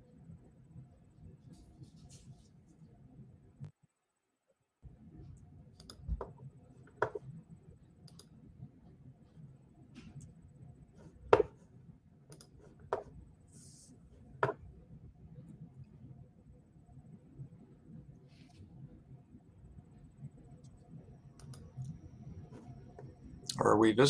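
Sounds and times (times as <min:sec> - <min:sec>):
faint room hum: 0:00.0 - 0:24.0.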